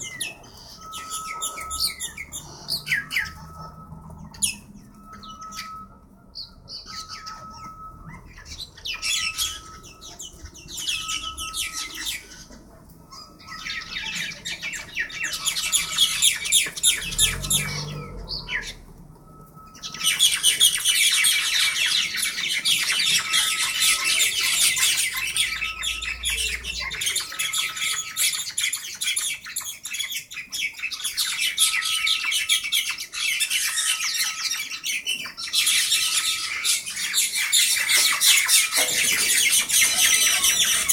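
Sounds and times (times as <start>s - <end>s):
birds squawking and screeching: 0.0s - 40.9s.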